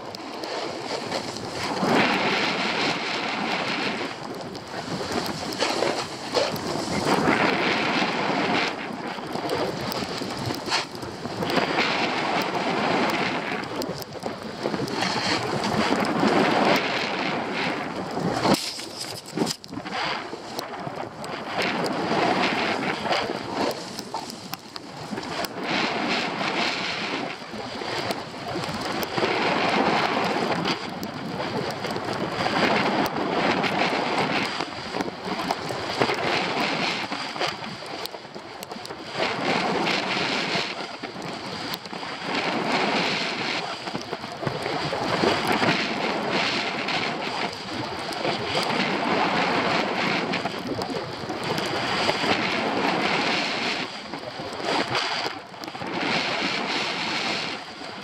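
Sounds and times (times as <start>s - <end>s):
skis scraping over snow: 0.0s - 58.0s
wind buffeting microphone: 0.0s - 58.0s.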